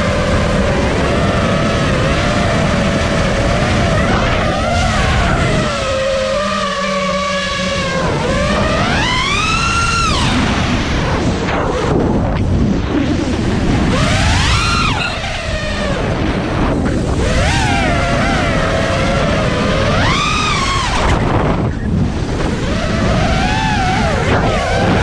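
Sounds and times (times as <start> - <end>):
quadcopter motors whining: 0.0 - 25.0
wind rumble on microphone: 0.0 - 25.0.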